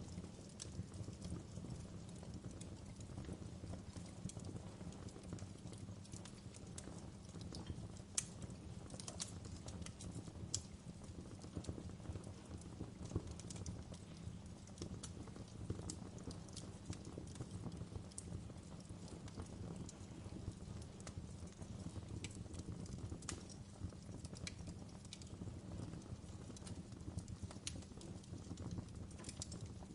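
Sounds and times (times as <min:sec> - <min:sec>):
fire flames rumbling: 0:00.0 - 0:29.9
wood fire crackling and popping: 0:00.0 - 0:29.9.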